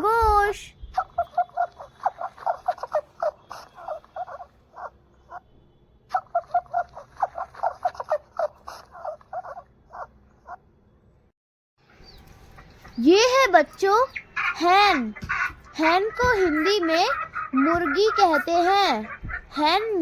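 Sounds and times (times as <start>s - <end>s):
rabbit squeaking: 0.0s - 5.5s, 6.1s - 10.6s, 12.0s - 20.0s.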